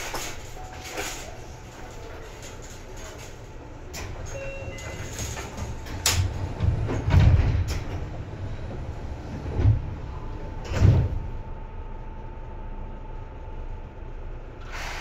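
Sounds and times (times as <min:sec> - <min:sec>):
train running gear rumble: 0:00.0 - 0:14.7.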